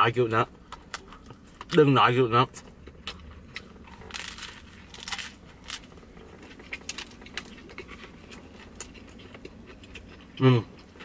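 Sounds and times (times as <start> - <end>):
crusty bread crunching: 0.6 - 11.0.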